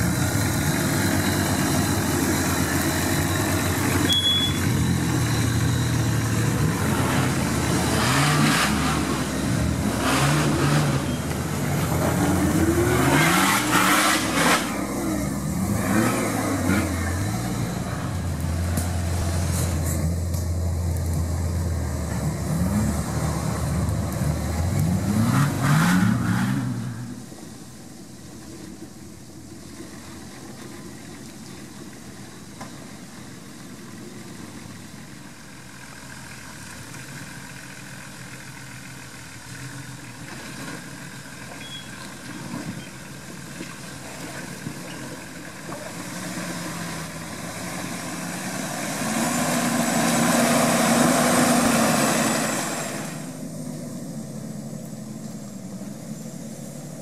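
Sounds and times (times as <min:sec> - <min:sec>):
off-road vehicle engine revving: 0:00.0 - 0:27.3, 0:36.2 - 0:57.0.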